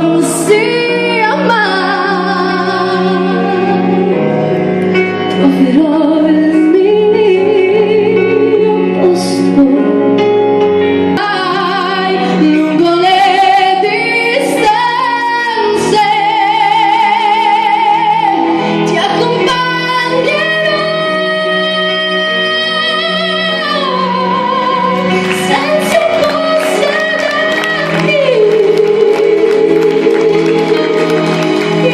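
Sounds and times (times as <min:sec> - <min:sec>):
woman singing with vibrato: 0:00.0 - 0:04.4, 0:05.3 - 0:10.1, 0:11.2 - 0:31.9
instrumental accompaniment: 0:00.0 - 0:31.9.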